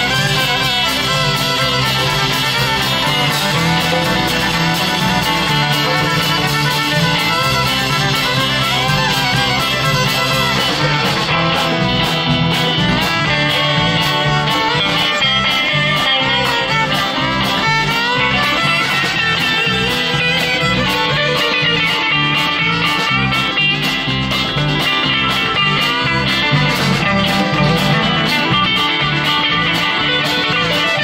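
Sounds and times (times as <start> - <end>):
bass guitar: 0.0 - 31.0
congas: 0.0 - 31.0
fiddle: 0.0 - 31.0
guitar: 0.0 - 31.0.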